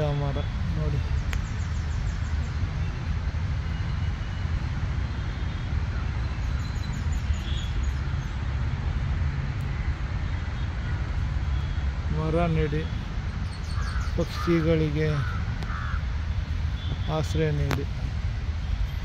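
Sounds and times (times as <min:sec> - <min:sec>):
distant city traffic rumble: 0:00.0 - 0:19.0.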